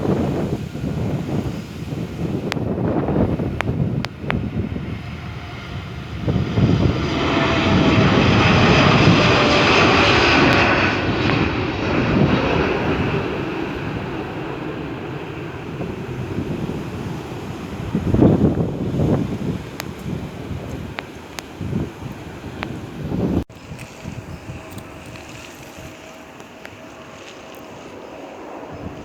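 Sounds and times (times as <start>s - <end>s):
jet engines roaring: 0.0s - 29.0s
wind buffeting microphone: 0.0s - 29.0s.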